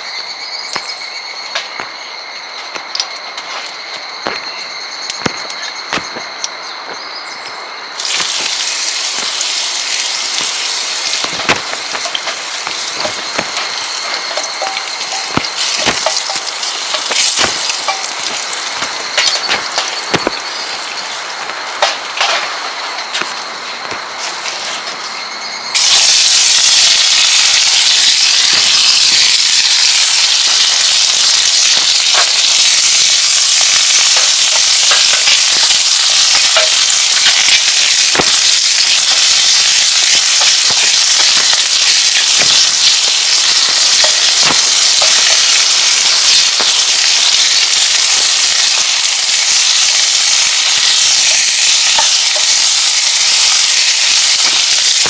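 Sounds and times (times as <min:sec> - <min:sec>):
food sizzling in a pan: 0:08.0 - 0:55.0.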